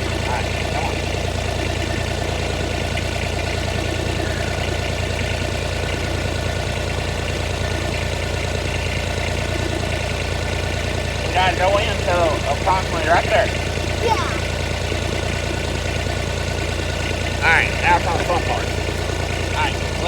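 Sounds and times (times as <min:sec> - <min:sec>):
utility vehicle engine idling: 0:00.0 - 0:20.0.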